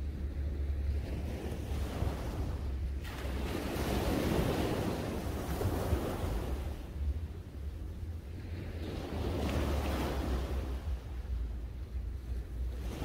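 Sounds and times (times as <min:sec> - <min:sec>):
small waves breaking on beach: 0:00.0 - 0:13.0
wind rumble on microphone: 0:00.0 - 0:13.0.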